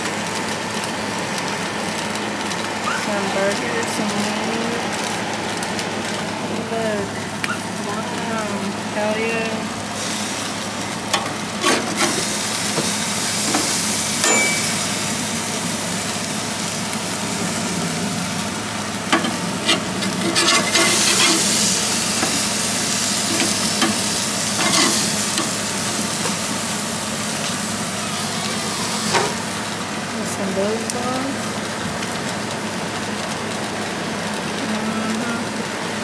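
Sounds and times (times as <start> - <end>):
meat sizzling on a grill: 0.0 - 36.0.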